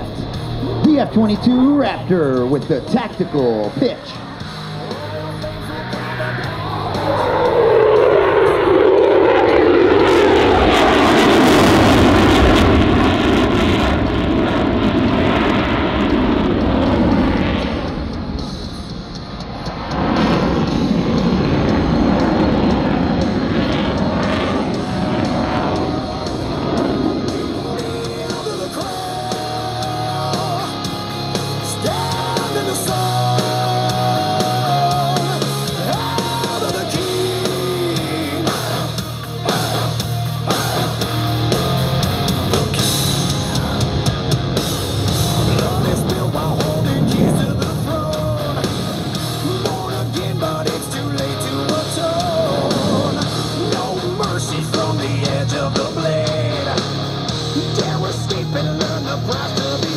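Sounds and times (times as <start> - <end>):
rock music with singing: 0.0 - 59.9.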